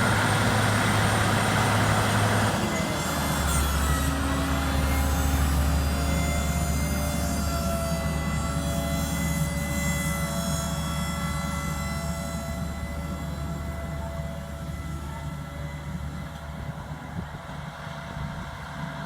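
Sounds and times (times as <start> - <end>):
high engine whine: 0.0 - 19.0
tractor engine running: 0.0 - 19.0.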